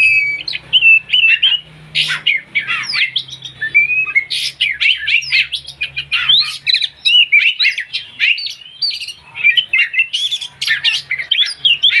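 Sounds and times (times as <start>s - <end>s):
songbird chattering: 0.0s - 12.0s.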